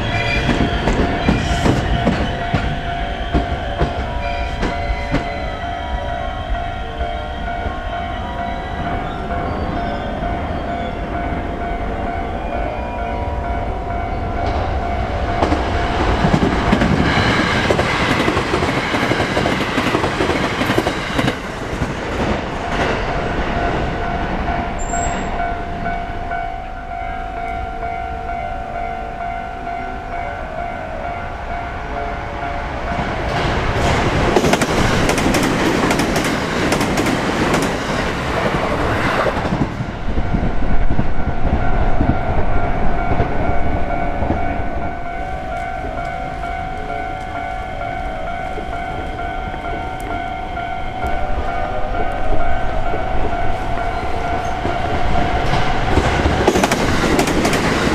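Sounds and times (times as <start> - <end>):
level crossing warning bell: 0.0 - 57.9
trains rumbling over rails: 0.0 - 57.9.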